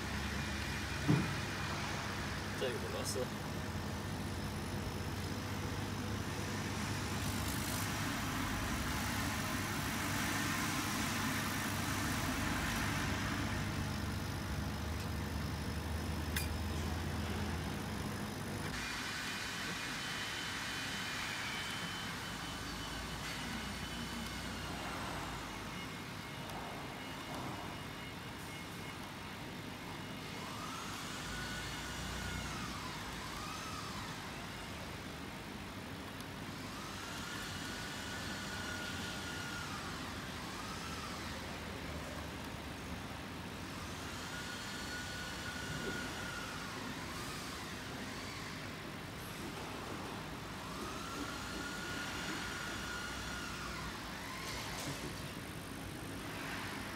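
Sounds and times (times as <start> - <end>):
machine motor whine: 0.0 - 56.9
steady workshop hum: 0.0 - 56.9.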